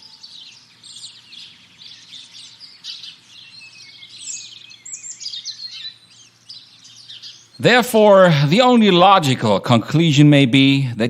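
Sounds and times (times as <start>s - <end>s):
birds singing and chirping: 0.0s - 9.6s.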